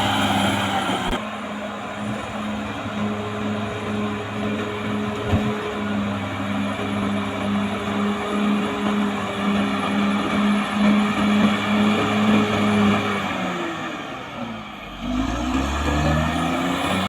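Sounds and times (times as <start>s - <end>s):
bulldozer diesel engine running: 0.0s - 17.0s
clanking tracks: 0.0s - 17.0s.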